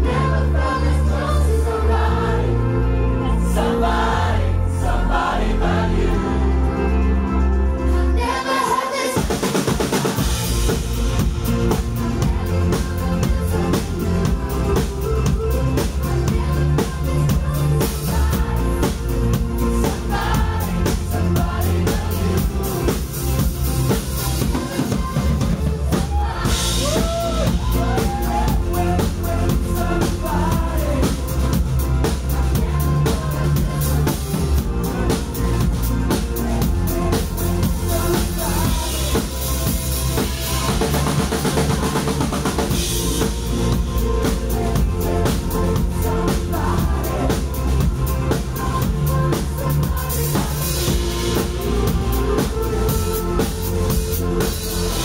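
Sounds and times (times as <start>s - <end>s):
bass: 0.0s - 55.0s
keyboards: 0.0s - 55.0s
drum kit: 3.6s - 55.0s
woman singing: 8.0s - 55.0s.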